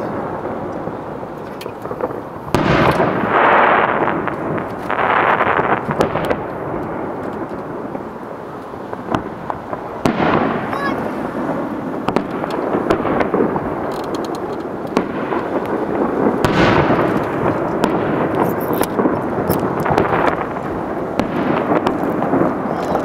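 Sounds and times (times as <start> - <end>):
firework booms: 0.0 - 23.0
firework crackling pops: 0.0 - 23.0.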